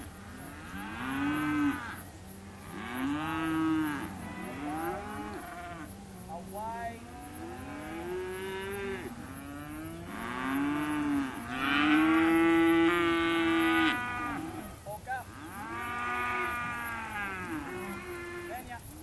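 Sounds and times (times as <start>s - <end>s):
calves bawling: 0.0s - 19.0s.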